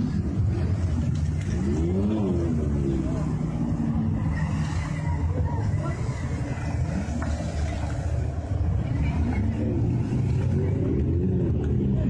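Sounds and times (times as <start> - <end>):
engine rumbling under load: 0.0 - 12.0.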